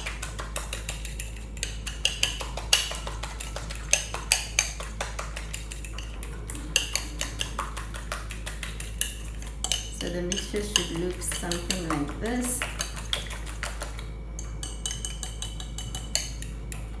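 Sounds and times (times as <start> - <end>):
fork whisking batter in glass bowl: 0.0 - 16.8.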